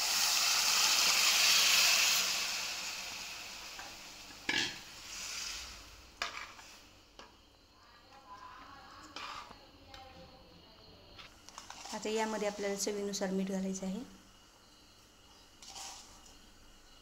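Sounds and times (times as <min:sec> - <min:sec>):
loud sizzle: 0:00.0 - 0:09.5, 0:11.4 - 0:17.0.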